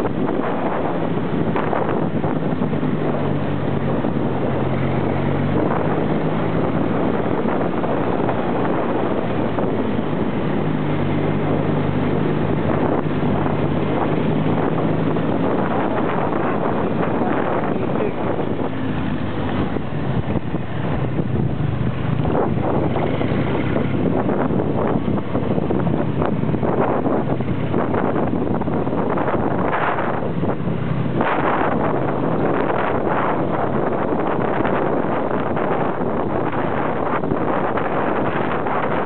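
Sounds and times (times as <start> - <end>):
quad bike engine running: 0.0 - 39.0
wind on microphone: 0.0 - 39.0.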